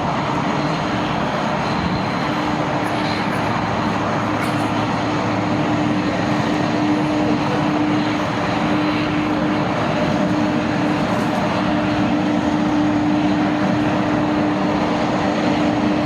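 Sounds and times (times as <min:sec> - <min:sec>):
constant hum: 0:00.0 - 0:16.0
jet engines rushing: 0:00.0 - 0:16.0.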